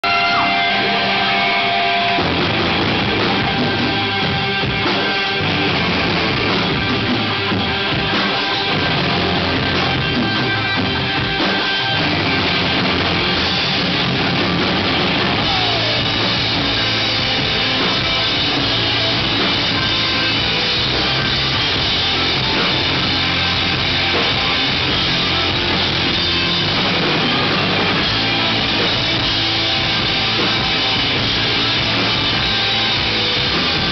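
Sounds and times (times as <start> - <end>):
held guitar tone: 0.0 - 33.9
live rock band playing: 0.0 - 33.9.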